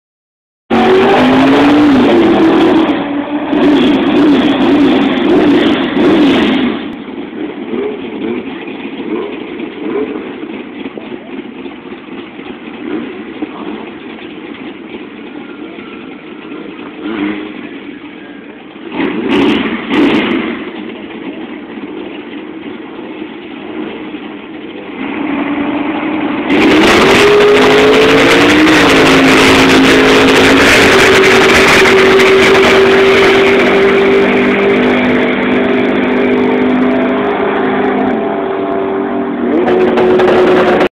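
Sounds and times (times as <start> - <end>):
car engine revving: 0.7 - 40.9.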